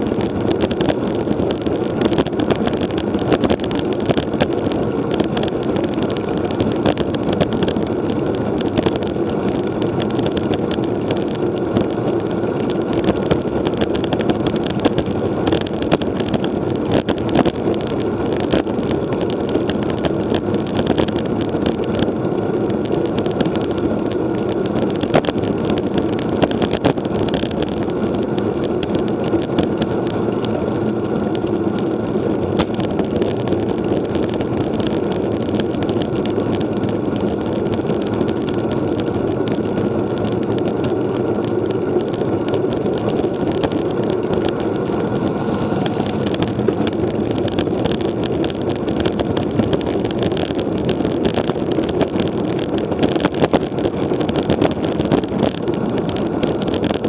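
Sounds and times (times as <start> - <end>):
bike tyre noise: 0.0 - 57.0
small clicks and rattles: 0.0 - 57.0.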